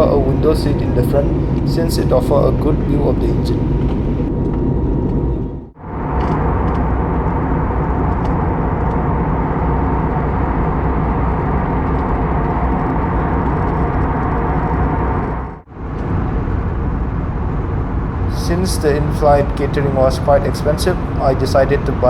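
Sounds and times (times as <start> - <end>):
airflow and jet engine noise: 0.0 - 22.0
faint steady hum: 0.0 - 22.0.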